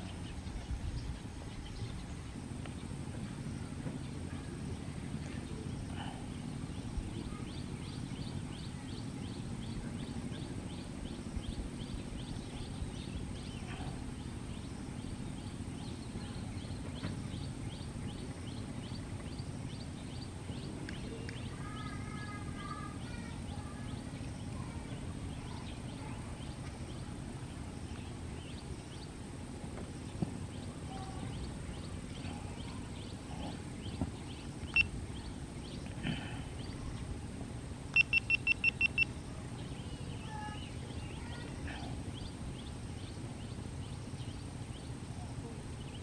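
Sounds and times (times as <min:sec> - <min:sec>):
low outdoor rumble: 0:00.0 - 0:46.0
chirps: 0:03.9 - 0:29.2, 0:29.9 - 0:37.1, 0:37.9 - 0:46.0.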